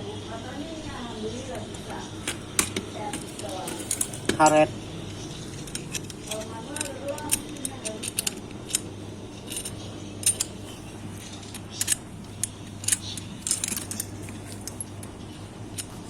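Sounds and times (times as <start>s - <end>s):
steady low hum: 0.0s - 16.0s
metal tools clinking: 3.0s - 16.0s.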